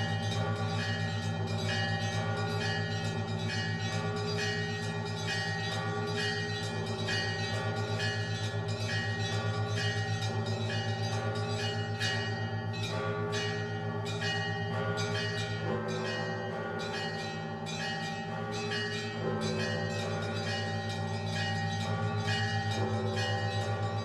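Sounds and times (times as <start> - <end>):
deeper bells ringing: 0.0 - 24.0
large bell low hum: 0.0 - 24.0
small bells ringing: 0.0 - 24.0.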